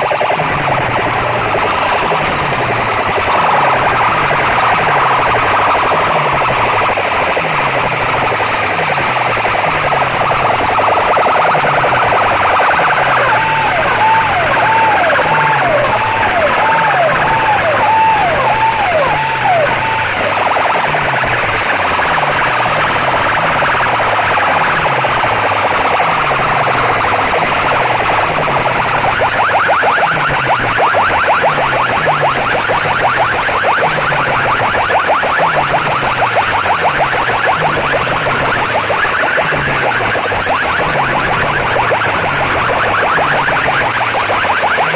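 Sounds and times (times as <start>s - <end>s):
high falling wail: 0.0s - 44.9s
low falling siren tone: 0.0s - 44.9s
noisy wash: 0.0s - 44.9s.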